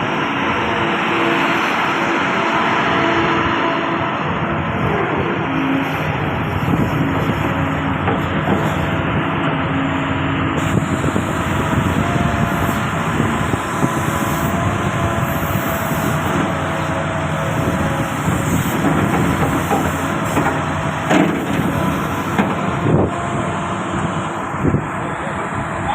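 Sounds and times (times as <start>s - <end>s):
excavator engine and hydraulics: 0.0s - 25.9s.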